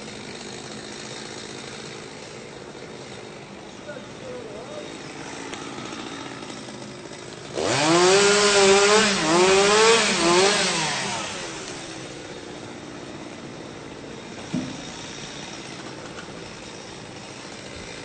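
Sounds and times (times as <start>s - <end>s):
chainsaw engine revving: 0.0s - 18.0s.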